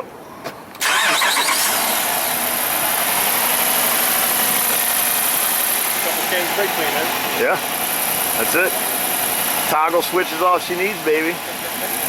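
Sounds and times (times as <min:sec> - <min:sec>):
car engine starting and running: 0:00.7 - 0:10.4.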